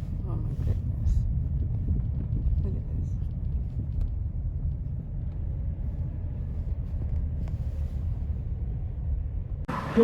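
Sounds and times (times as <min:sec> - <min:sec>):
car cabin road and engine rumble: 0:00.0 - 0:10.0.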